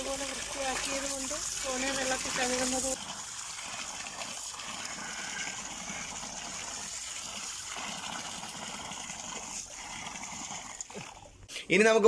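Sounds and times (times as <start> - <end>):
water pouring into basin: 0.0 - 11.5.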